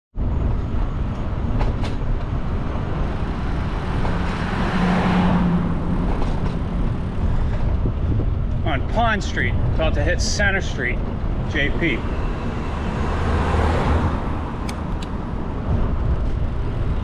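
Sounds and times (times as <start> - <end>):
road and wind rumble: 0.1 - 17.0
passing vehicle engine hum: 0.7 - 8.4, 11.0 - 17.0.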